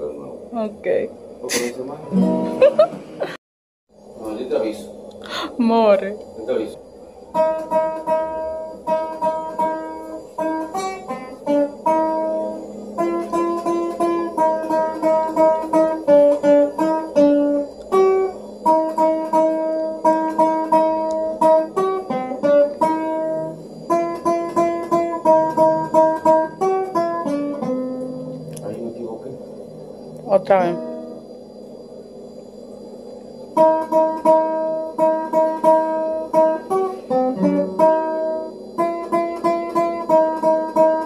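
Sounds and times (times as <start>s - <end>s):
acoustic guitar melody: 1.5s - 3.4s, 7.1s - 29.2s, 29.8s - 31.2s, 33.5s - 41.0s.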